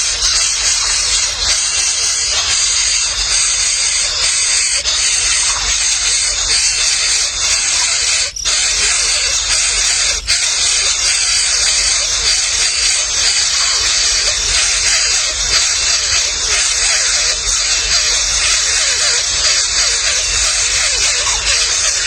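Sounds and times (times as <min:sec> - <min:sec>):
baby birds chirping and squealing: 0:00.0 - 0:22.0.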